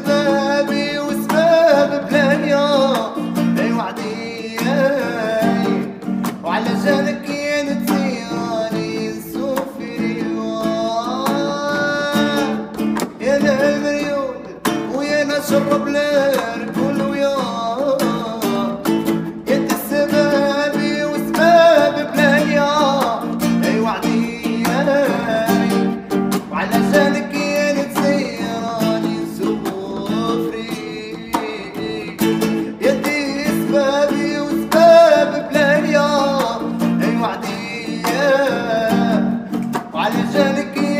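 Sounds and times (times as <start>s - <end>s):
acoustic guitar: 0.0s - 40.9s
man singing: 0.0s - 40.9s.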